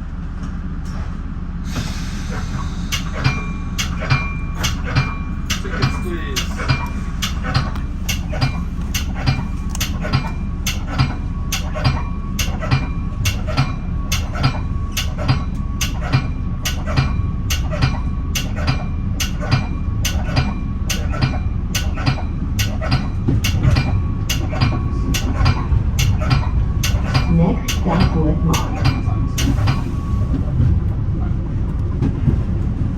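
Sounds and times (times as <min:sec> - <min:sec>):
train coach rumbling on rails: 0:00.0 - 0:32.9
train wheel clicks: 0:01.7 - 0:30.6.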